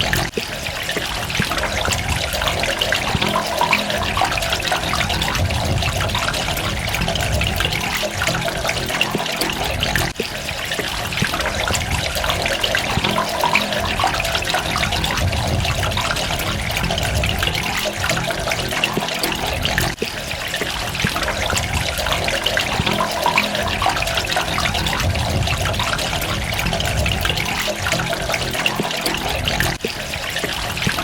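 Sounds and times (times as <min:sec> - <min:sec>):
running water splashing: 0:00.0 - 0:31.0.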